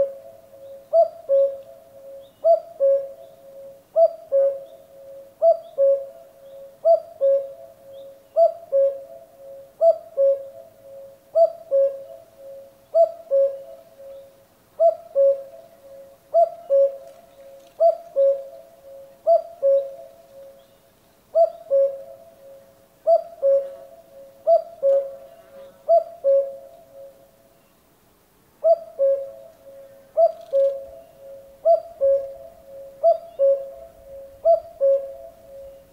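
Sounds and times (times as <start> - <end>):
cuckoo calling: 0.0 - 27.2, 28.6 - 35.9.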